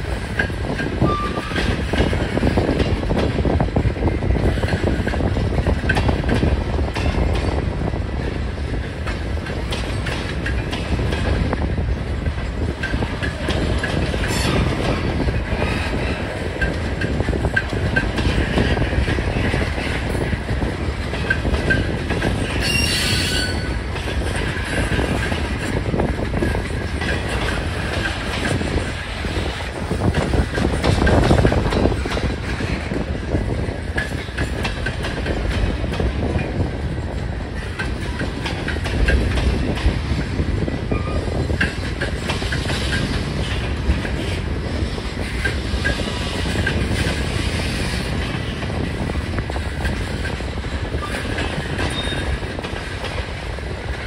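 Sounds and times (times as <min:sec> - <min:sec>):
train wheels clattering over rail joints: 0:00.0 - 0:54.0.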